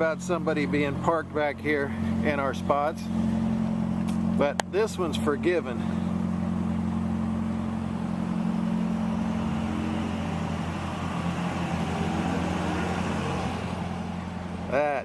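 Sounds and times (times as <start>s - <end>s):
three-wheeler engine humming: 0.0s - 15.0s.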